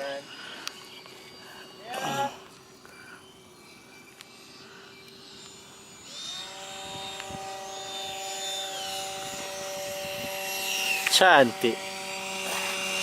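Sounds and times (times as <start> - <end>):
rc jet whining in flight: 0.0 - 13.0.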